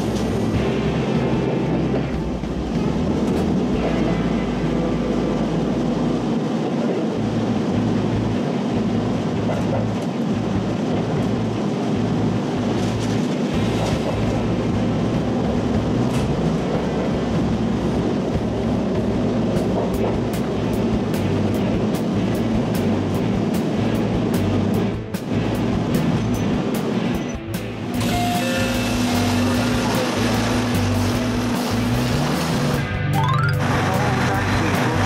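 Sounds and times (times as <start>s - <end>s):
train engine hum: 0.0s - 35.0s
wheel and rail noise: 0.0s - 35.0s.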